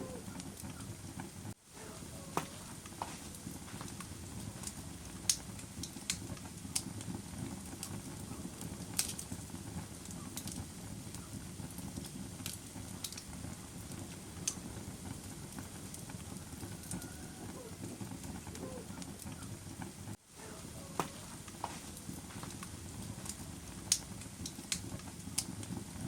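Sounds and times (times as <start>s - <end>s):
fire crackling: 0.0s - 26.0s
low rumble of burning: 0.0s - 26.0s.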